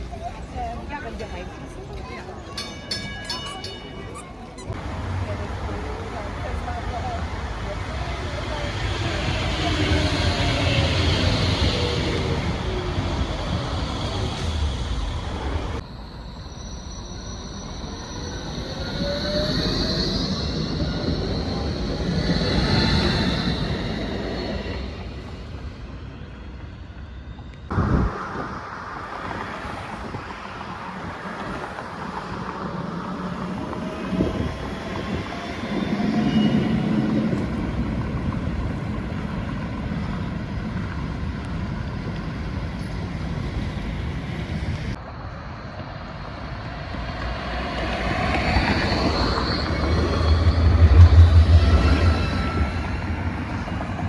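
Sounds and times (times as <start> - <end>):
trams running on rails: 0.0 - 54.0.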